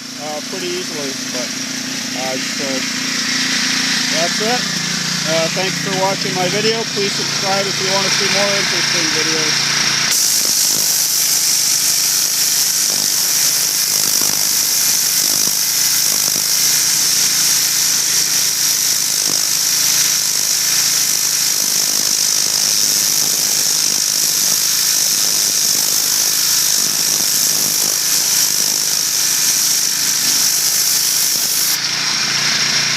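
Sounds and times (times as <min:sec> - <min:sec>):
pressure washer spraying wood: 0:00.0 - 0:32.9.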